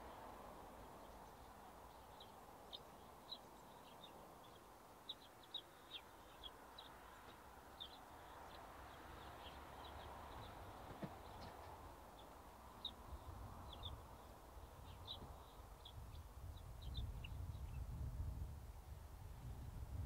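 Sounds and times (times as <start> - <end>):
songbirds chirping: 0.0 - 19.2.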